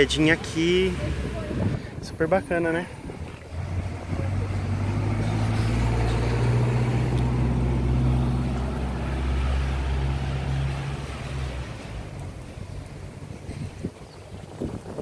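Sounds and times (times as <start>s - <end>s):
vehicle engine droning: 0.0s - 13.8s.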